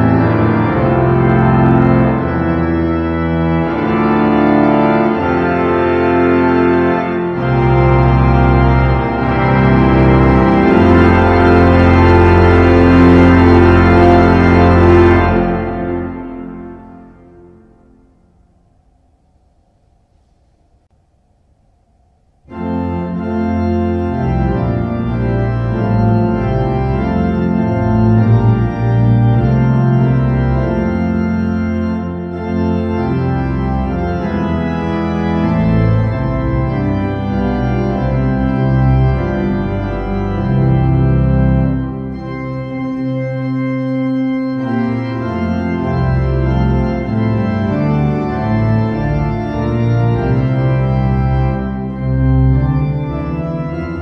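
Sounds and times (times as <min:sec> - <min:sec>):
sustained organ chords: 0:00.0 - 0:54.0.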